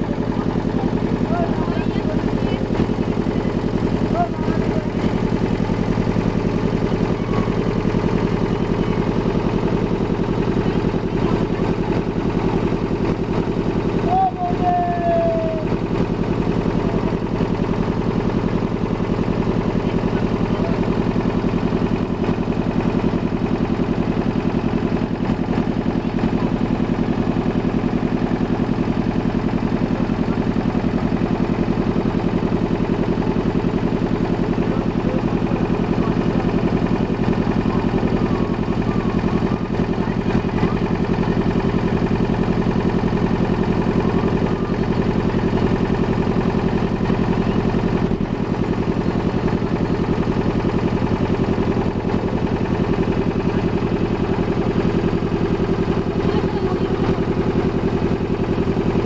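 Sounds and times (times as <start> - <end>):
boat engine throbbing: 0.0 - 59.0.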